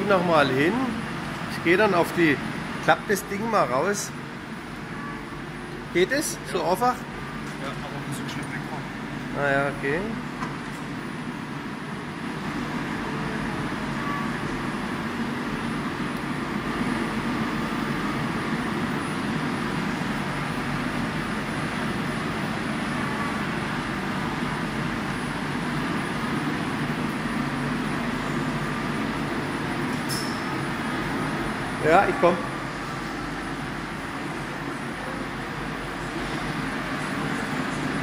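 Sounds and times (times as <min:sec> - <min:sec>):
cnc lathe hum and whir: 0:00.0 - 0:38.0.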